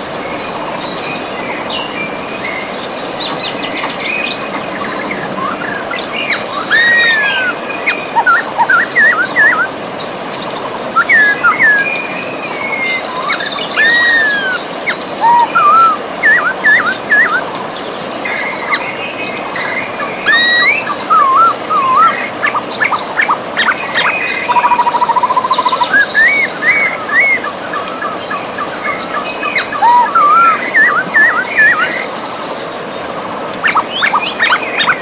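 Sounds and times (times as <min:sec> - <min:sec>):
river rushing: 0:00.0 - 0:35.0
songbirds singing and calling: 0:00.0 - 0:35.0.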